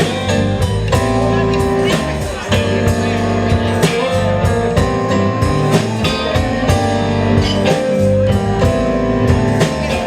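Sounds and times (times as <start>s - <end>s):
blues band playing: 0.0s - 10.0s
guitar: 0.0s - 10.0s.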